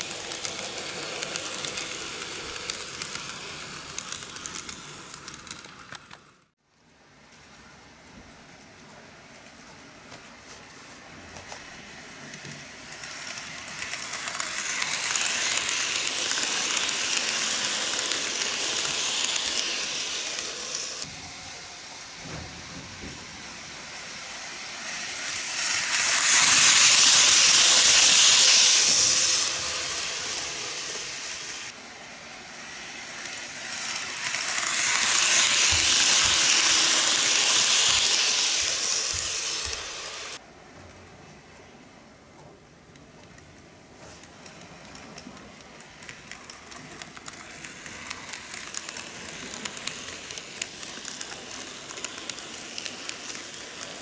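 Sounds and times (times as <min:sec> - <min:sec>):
model train running on track: 0:00.0 - 0:06.4, 0:10.6 - 0:40.4, 0:44.2 - 0:54.0.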